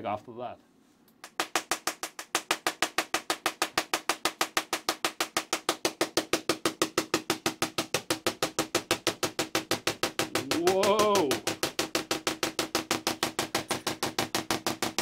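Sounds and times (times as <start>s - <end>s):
tesla coil spark cracks: 1.2s - 15.0s.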